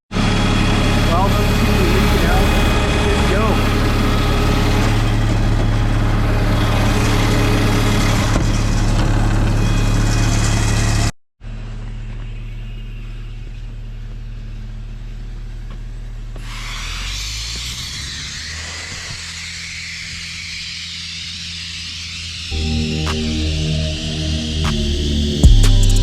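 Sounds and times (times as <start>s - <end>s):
air compressor engine drone: 0.1s - 26.0s.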